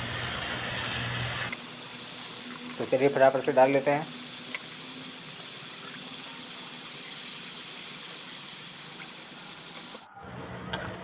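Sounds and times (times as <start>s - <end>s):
leaves sizzling in a hot wok: 0.0s - 10.0s.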